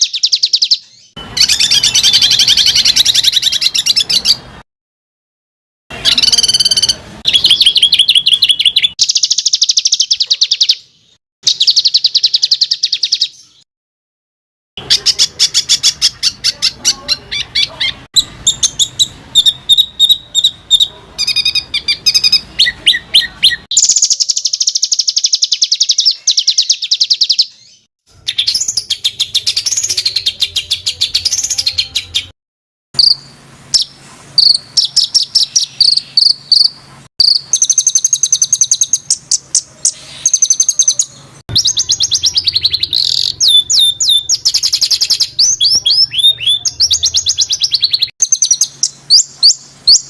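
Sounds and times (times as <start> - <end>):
songbird singing harsh trills: 0.0 - 4.5, 5.9 - 13.6, 14.8 - 32.3, 33.0 - 50.0.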